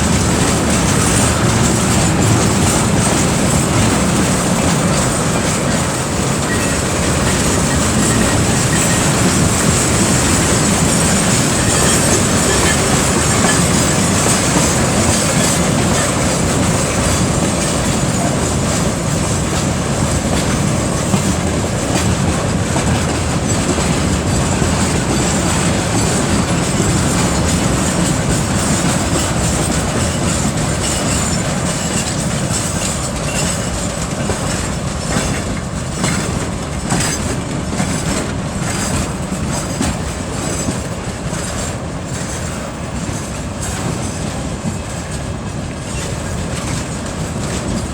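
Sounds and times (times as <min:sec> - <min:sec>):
diesel locomotive working hard: 0:00.0 - 0:47.9
wheels clicking over rail joints: 0:00.0 - 0:47.9.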